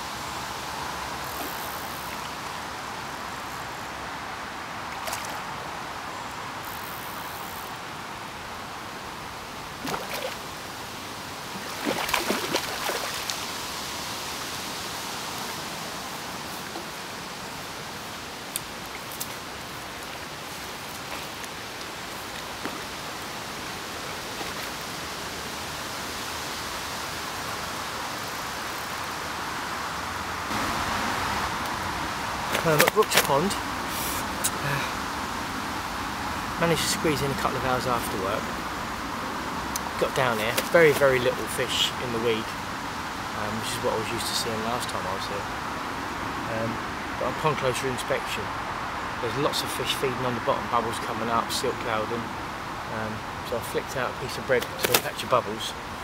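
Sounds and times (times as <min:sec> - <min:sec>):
water flowing: 0:00.0 - 0:56.0.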